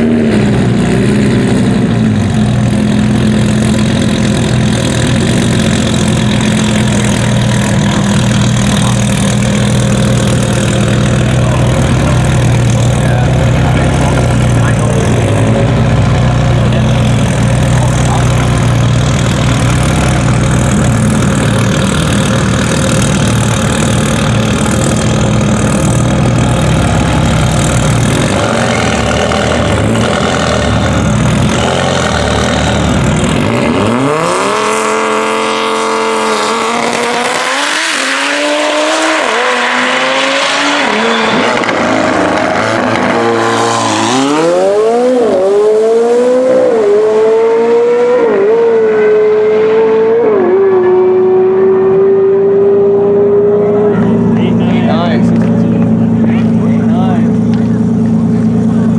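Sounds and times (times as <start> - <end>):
race car engine at full throttle: 0.0 - 58.9.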